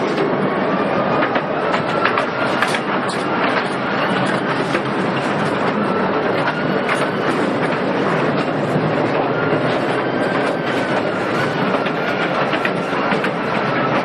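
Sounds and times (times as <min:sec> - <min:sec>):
mine train rattling on rails: 0:00.0 - 0:14.0.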